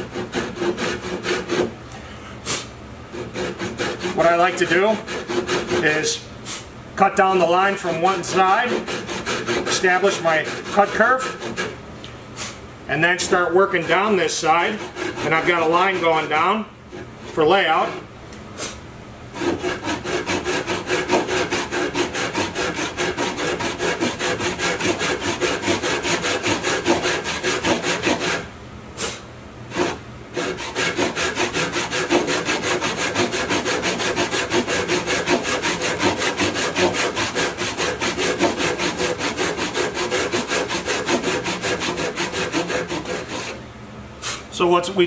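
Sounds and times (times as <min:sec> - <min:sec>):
hand saw cutting wood: 0:00.0 - 0:01.7, 0:02.5 - 0:11.8, 0:13.1 - 0:18.8, 0:19.4 - 0:43.6.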